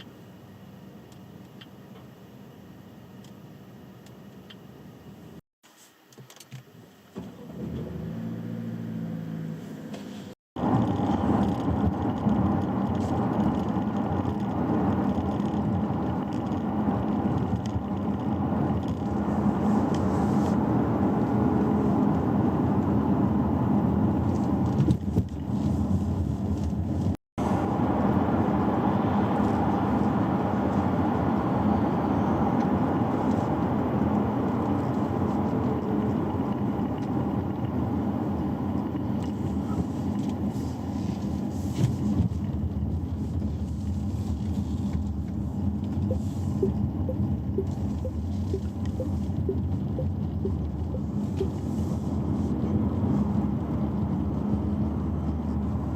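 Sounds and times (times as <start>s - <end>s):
car road noise with tyre rush: 0.0s - 55.9s.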